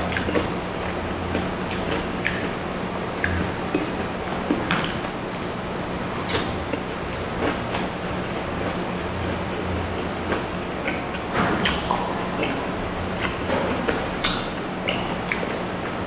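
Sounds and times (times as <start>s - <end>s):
wet chewing and biting: 0.0s - 2.6s, 3.2s - 5.6s, 6.2s - 16.0s
small crackles and mouth clicks: 0.0s - 5.6s, 6.2s - 16.0s
steady low hum: 0.0s - 16.0s.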